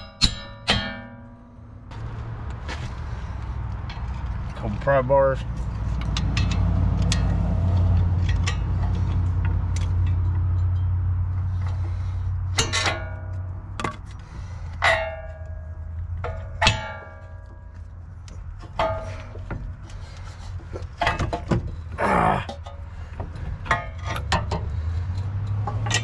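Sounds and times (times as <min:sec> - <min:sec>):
pry bars clanging on metal: 0:00.0 - 0:01.4, 0:05.8 - 0:17.6, 0:18.3 - 0:26.0.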